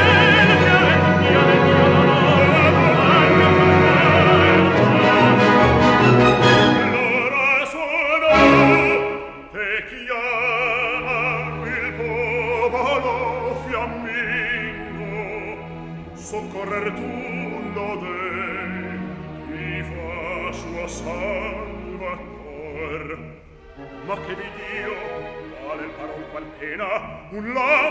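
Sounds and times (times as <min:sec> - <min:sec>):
opera singing with orchestra: 0:00.0 - 0:27.9.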